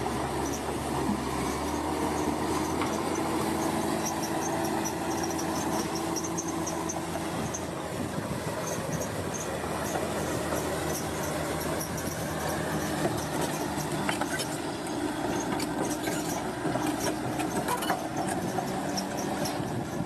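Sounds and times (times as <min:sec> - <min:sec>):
construction machinery engine drone: 0:00.0 - 0:20.0.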